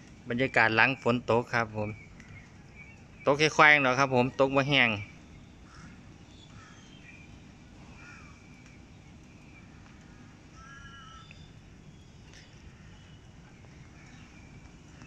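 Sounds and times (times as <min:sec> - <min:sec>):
faint bird calls: 0:00.0 - 0:15.0
low background rumble: 0:00.0 - 0:15.0.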